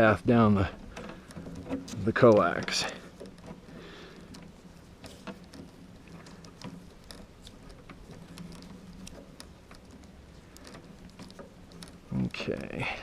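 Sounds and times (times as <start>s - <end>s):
tape pulled off roll crackling: 0.0s - 12.5s.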